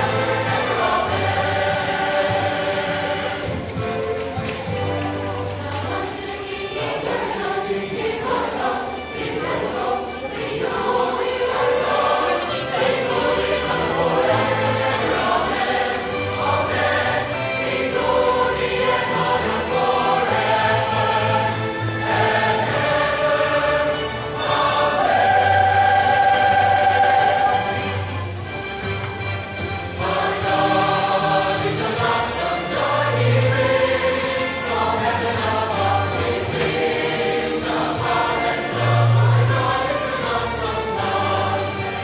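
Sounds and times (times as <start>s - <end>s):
mixed choir singing in harmony: 0.0s - 28.4s, 29.5s - 42.0s.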